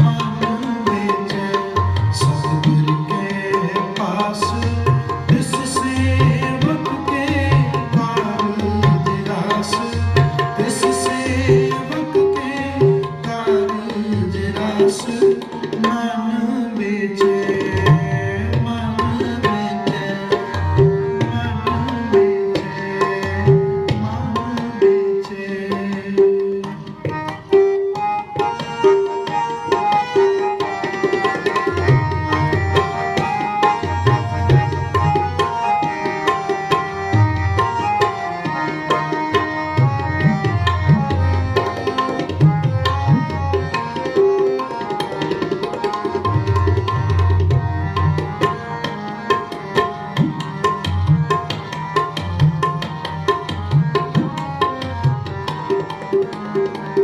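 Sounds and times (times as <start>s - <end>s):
tabla playing a rhythm: 0.0s - 57.0s.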